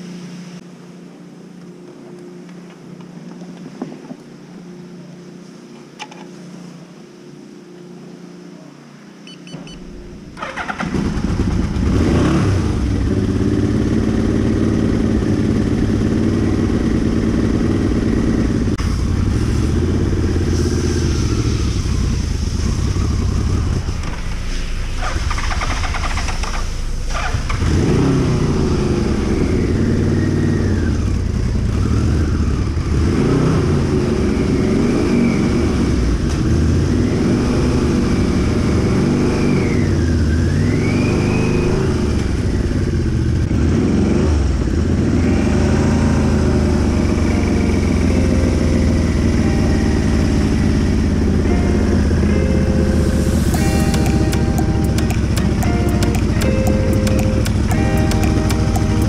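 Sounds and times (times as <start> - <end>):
motorcycle engine riding off: 9.8 - 59.0.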